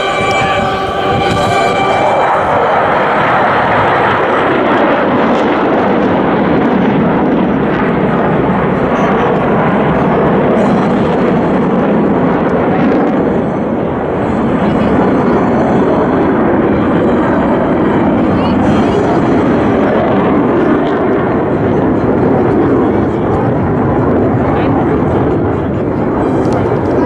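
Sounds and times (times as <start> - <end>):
jets flying overhead: 0.0 - 27.0.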